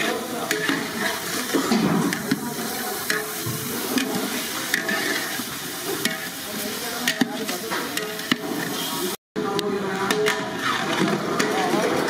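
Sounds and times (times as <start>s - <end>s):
curry bubbling and sizzling: 0.0s - 12.0s.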